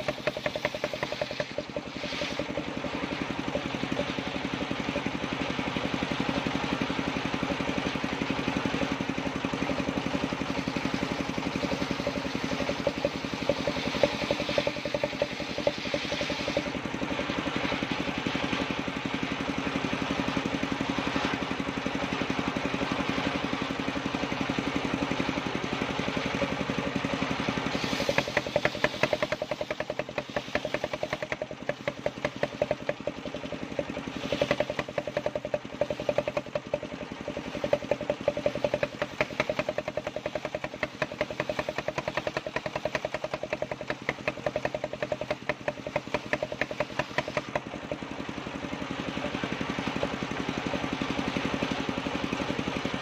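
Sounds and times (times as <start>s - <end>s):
engine-driven circular saw running: 0.0s - 53.0s.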